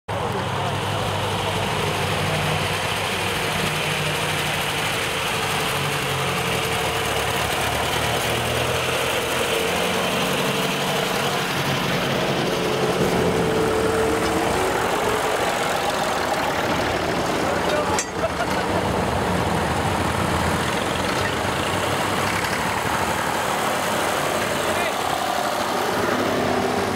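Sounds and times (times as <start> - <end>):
tractor engines driving past: 0.1 - 26.9.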